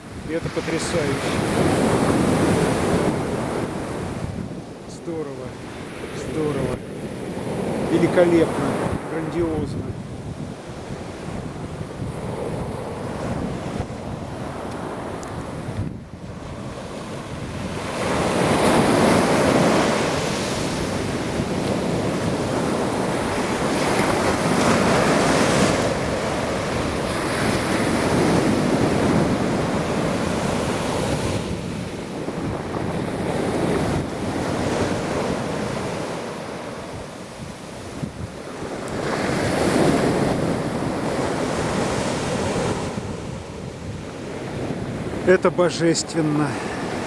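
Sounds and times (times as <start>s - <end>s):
wind buffeting microphone: 0.0s - 4.9s, 5.5s - 45.3s
waves breaking: 0.0s - 47.0s.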